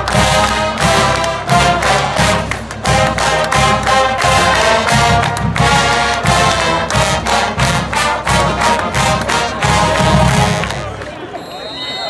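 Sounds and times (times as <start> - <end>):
marching band playing: 0.0 - 11.2.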